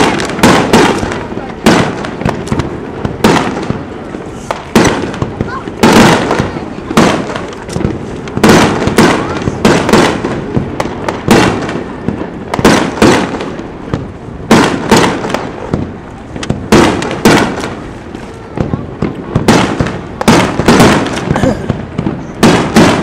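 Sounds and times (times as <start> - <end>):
fireworks booming: 0.0 - 23.0.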